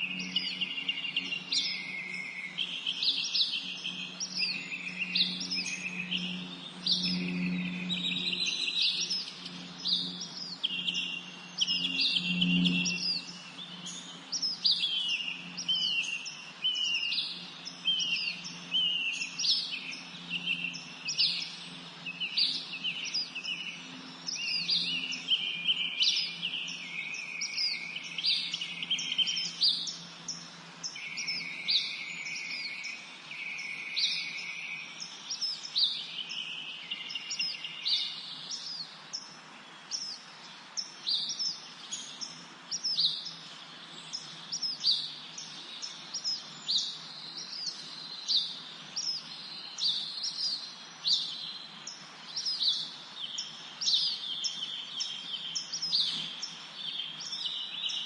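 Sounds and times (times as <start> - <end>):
songbirds chirping and trilling: 0.0 - 58.0
steady background hiss: 0.0 - 58.0.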